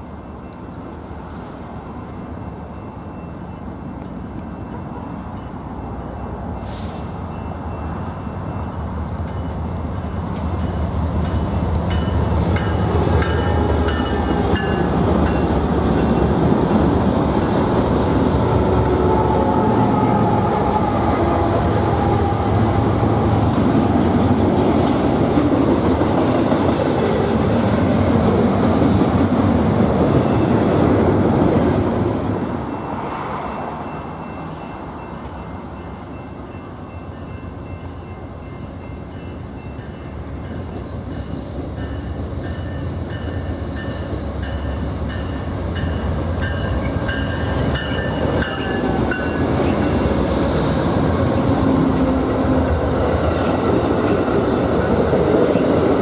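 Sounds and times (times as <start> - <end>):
diesel locomotives rumbling: 0.0 - 56.0.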